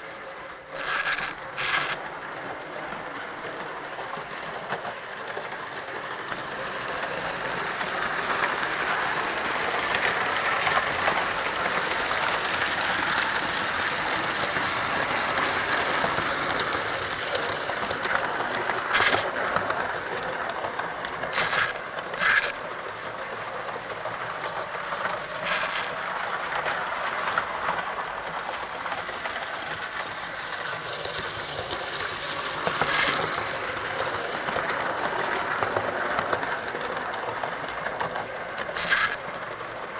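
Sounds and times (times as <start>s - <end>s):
model train rattling on track: 0.0s - 39.9s.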